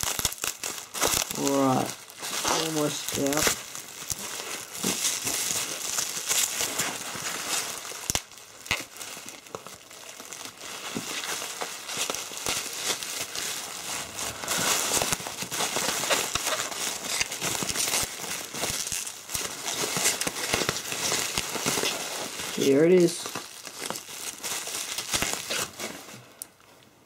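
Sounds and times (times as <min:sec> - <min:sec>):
bubble wrap crinkling: 0:00.0 - 0:26.8.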